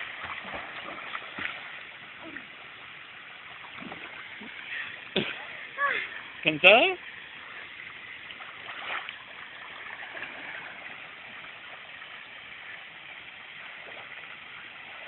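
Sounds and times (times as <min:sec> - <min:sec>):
water splashing in pool: 0:00.0 - 0:15.0.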